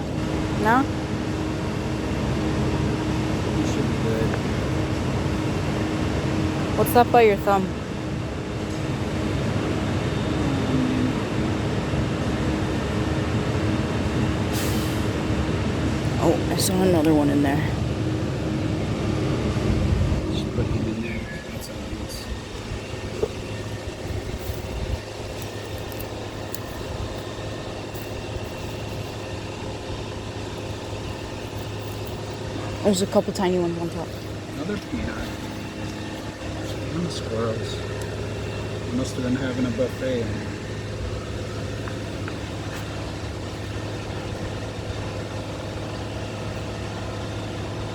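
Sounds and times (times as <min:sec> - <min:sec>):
low hum: 0:00.0 - 0:47.9
machinery droning: 0:00.0 - 0:47.9.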